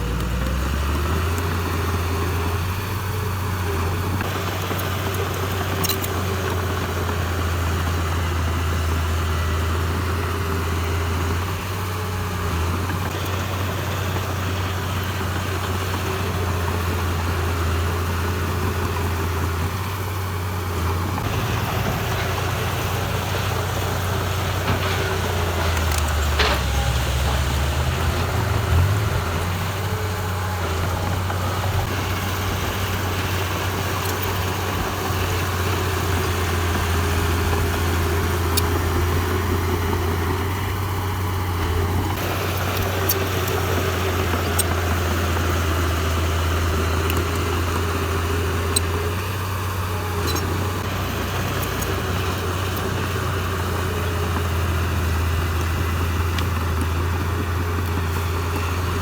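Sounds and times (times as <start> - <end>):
heavy diesel engine humming: 0.0 - 59.0.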